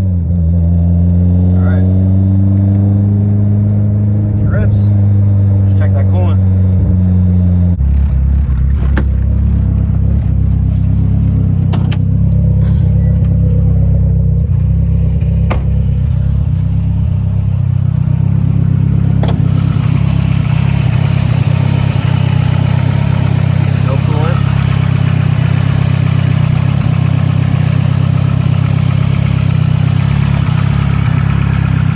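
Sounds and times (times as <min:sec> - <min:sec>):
car engine running: 0:00.0 - 0:31.9.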